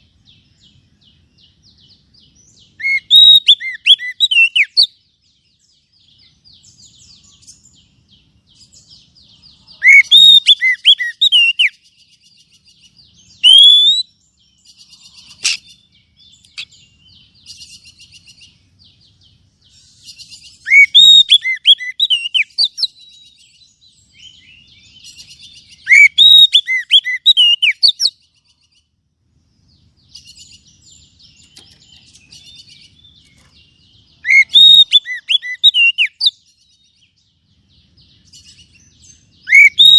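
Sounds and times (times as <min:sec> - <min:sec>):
bird whistled song: 0:00.0 - 0:28.9, 0:29.7 - 0:39.9.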